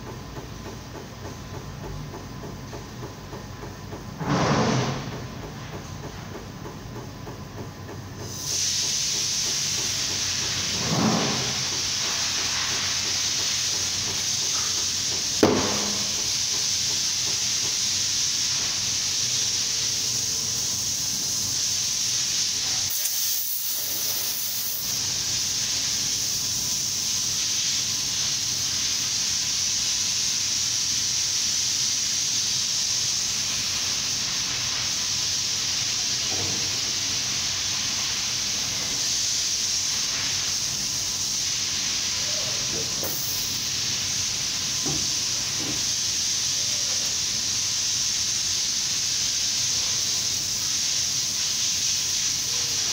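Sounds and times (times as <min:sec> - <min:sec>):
compressed air hissing: 0:08.2 - 0:52.9.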